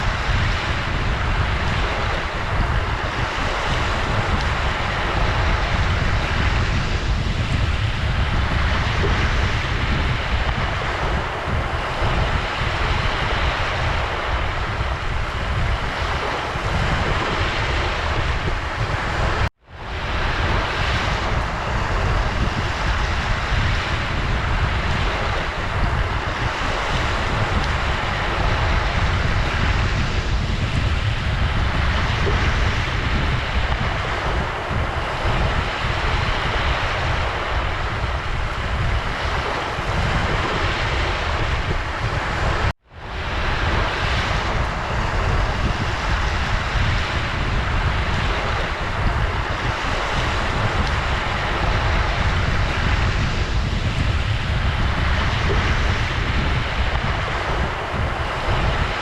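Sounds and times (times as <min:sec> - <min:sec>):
ocean waves washing in: 0:00.0 - 0:59.0.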